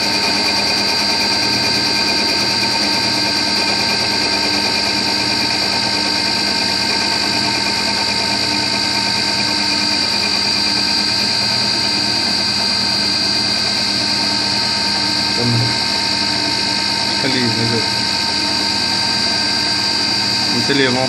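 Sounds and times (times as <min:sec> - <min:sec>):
lathe motors whining: 0:00.0 - 0:21.0.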